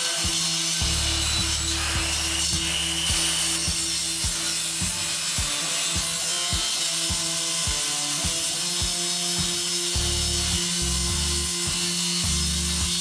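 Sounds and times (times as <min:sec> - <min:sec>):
hand saw rasping through plywood: 0:00.0 - 0:13.0
background music with drum beat: 0:00.2 - 0:13.0.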